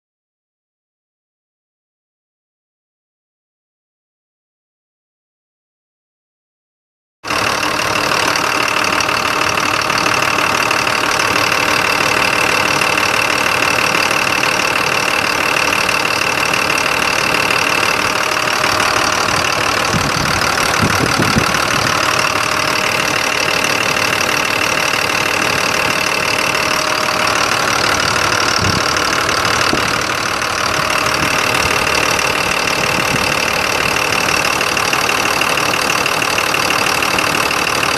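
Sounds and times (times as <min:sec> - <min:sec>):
diesel engine idling: 0:07.3 - 0:37.9.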